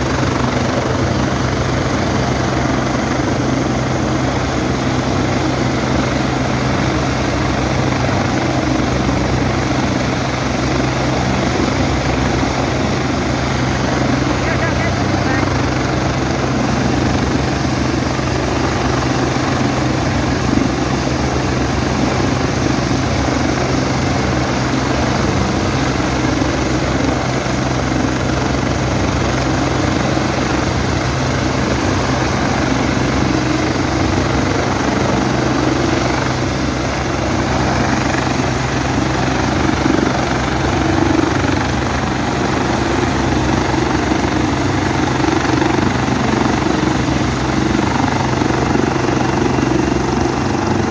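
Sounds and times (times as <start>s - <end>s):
helicopter engine and rotors: 0.0s - 50.9s.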